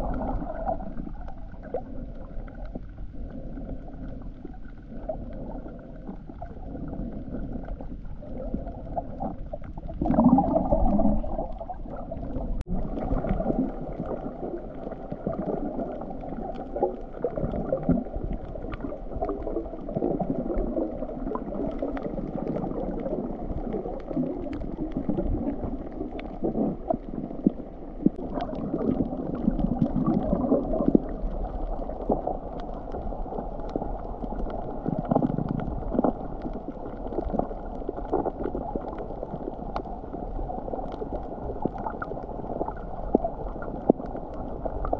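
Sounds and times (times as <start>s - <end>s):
underwater water sloshing: 0.0s - 44.9s.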